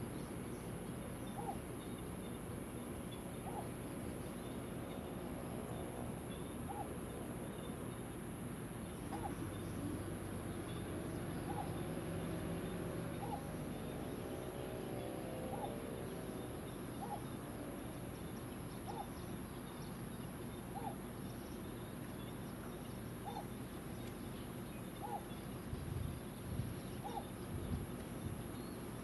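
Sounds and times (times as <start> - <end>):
outdoor background noise: 0.0 - 29.0.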